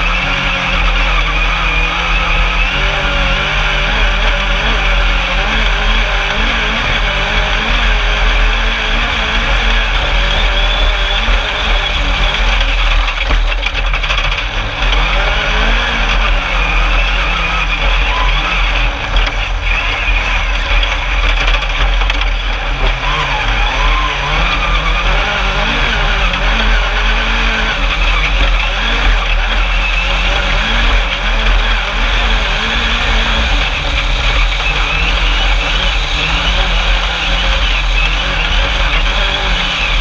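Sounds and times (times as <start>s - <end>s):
buggy engine revving: 0.0s - 40.0s
noisy rumble: 0.0s - 40.0s.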